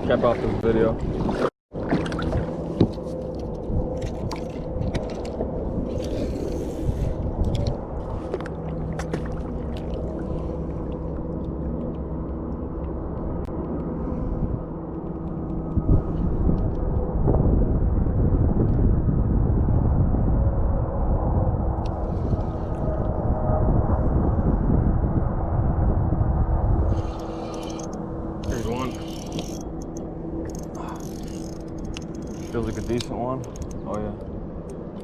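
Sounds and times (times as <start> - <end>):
low rumble of water ambience: 0.0 - 35.0.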